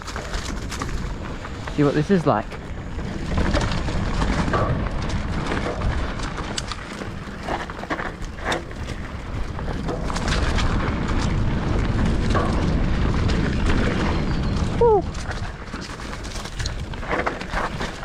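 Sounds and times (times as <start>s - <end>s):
bike rattling clicks and knocks: 0.0s - 18.0s
tyre noise on dirt: 0.0s - 18.0s
wind rumbling on microphone: 0.0s - 18.0s.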